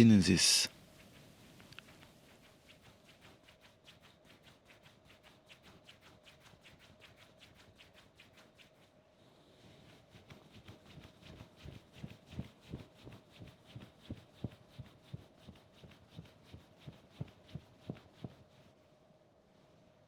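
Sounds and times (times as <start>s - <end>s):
palm rubbing on skin: 0.9s - 8.9s, 9.9s - 18.8s.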